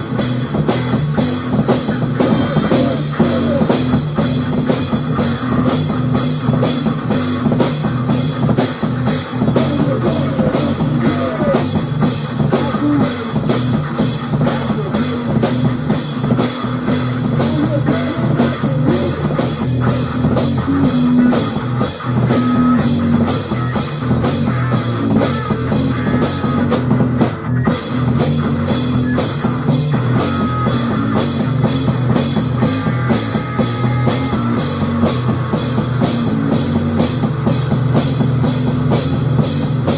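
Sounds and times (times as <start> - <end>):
drum kit beat: 0.0 - 39.9
guitar: 0.0 - 39.9
instrumental rock music: 0.0 - 39.9.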